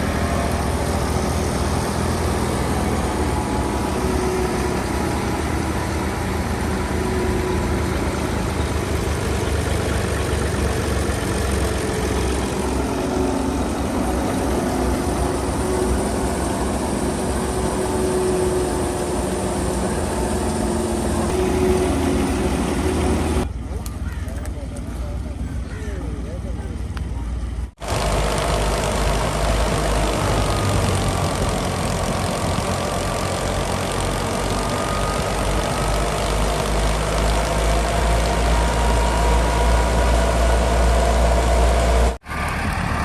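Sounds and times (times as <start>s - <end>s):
threshing machine noise: 0.0s - 24.0s, 27.8s - 43.0s
tractor diesel engine running: 0.0s - 43.0s.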